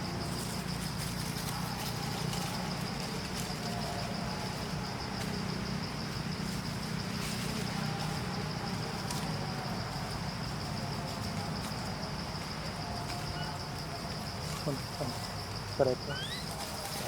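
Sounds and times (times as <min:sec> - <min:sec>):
insects buzzing: 0:00.0 - 0:17.0.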